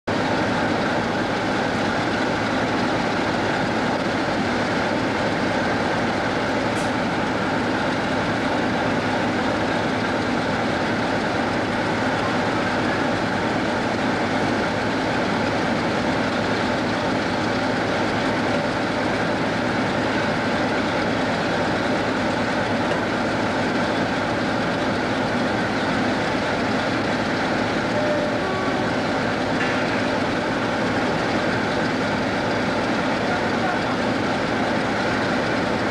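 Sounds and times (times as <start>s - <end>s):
diesel locomotive engine idling: 0.1s - 35.9s.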